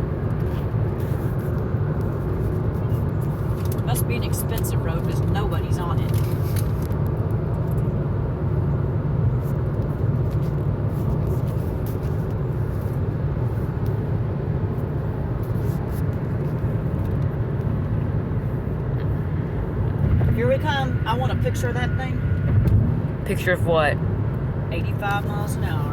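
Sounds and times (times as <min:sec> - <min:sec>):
road and tyre noise in car cabin: 0:00.0 - 0:25.9.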